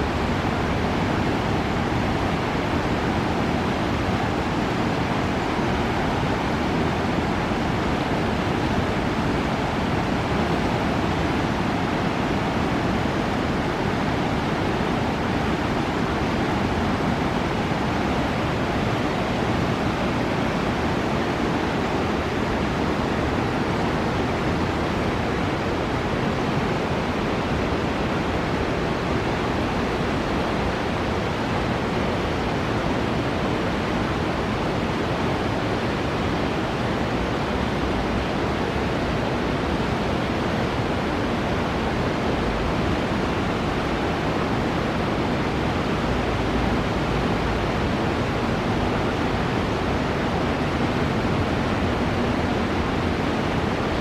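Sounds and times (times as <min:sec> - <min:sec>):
river water over rapids: 0:00.0 - 0:54.0.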